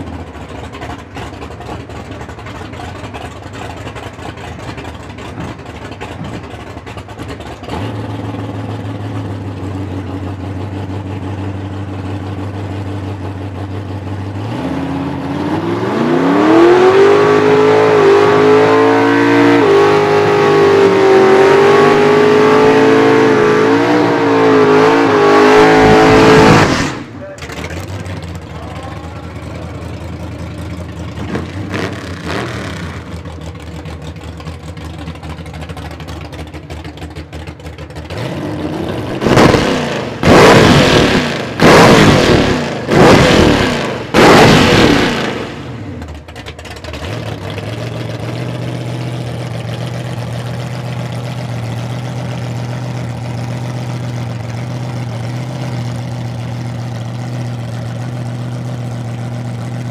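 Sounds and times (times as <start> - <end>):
pickup engine idling and revving: 0.0 - 59.9.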